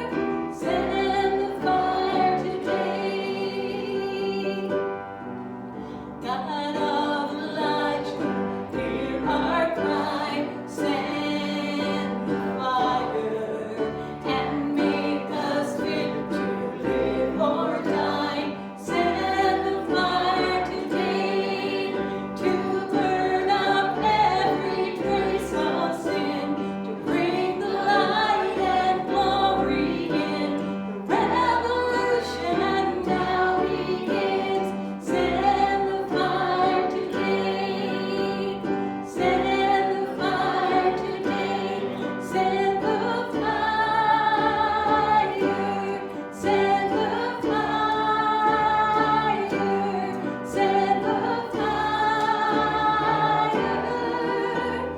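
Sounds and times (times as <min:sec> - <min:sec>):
congregation singing a hymn: 0:00.0 - 0:54.9
instrumental accompaniment: 0:00.0 - 0:54.9.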